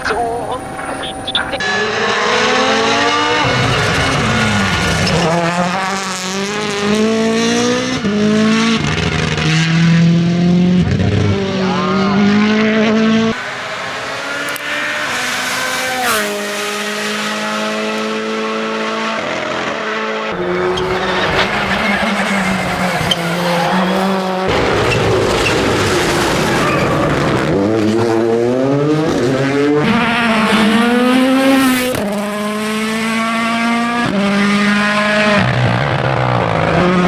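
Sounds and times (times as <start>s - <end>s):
rally car engine at full throttle: 0.0s - 37.0s.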